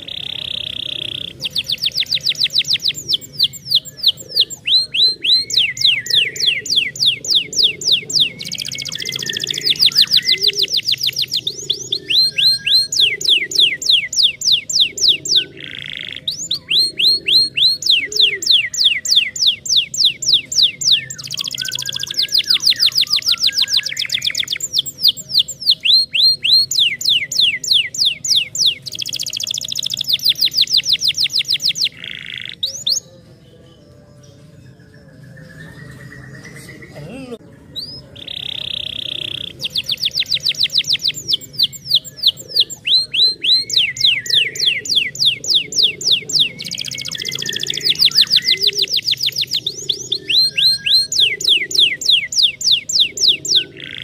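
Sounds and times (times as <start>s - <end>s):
canary singing fast trills: 0.0s - 54.0s.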